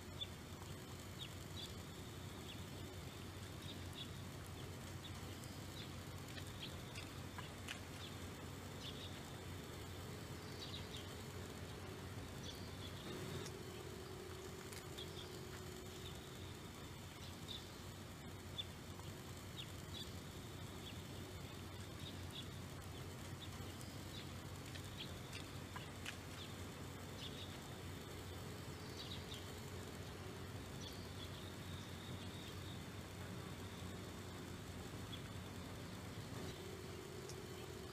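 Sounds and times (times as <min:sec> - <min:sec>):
small birds chirping: 0:00.0 - 0:37.9
steady low hum: 0:00.0 - 0:37.9.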